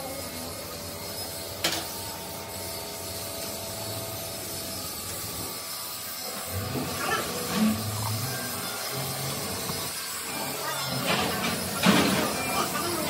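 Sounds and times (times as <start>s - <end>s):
machine running with hiss: 0.0s - 13.0s.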